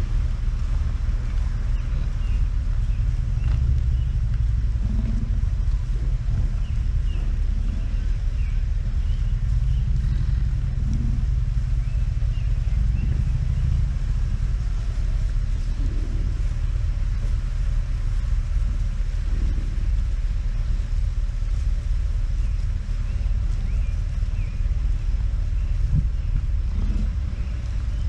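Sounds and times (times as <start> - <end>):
bison grunting: 0.0 - 28.0
vehicle idling: 0.0 - 28.0.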